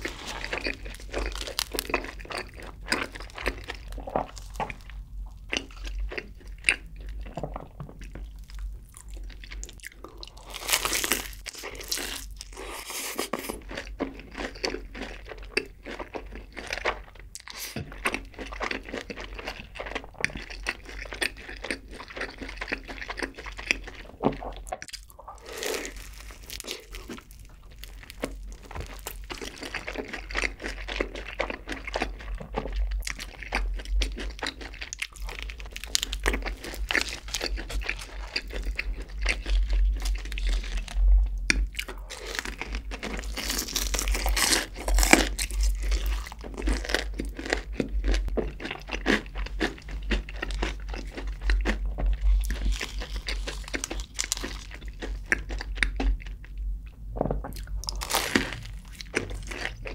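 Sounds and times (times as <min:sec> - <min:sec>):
crunchy chewing of fried chicken: 0:00.0 - 0:56.7, 0:57.5 - 0:59.9.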